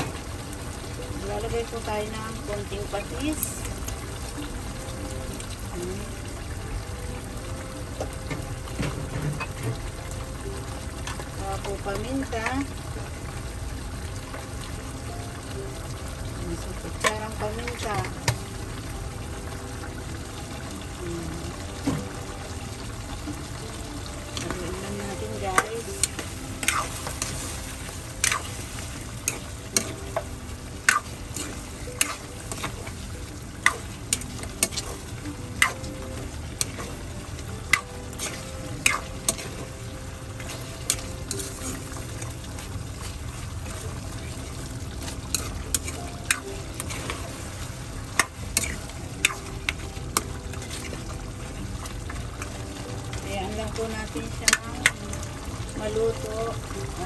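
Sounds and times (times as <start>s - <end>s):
chicken sizzling in a pan: 0.0s - 57.0s.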